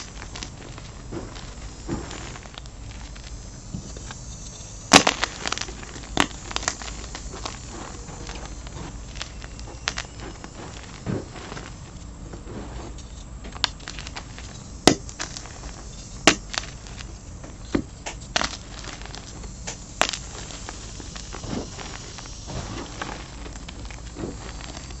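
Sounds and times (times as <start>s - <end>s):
chalk blocks snapping: 0.0s - 12.1s, 12.9s - 25.0s
powdery chalk crunching: 0.0s - 25.0s.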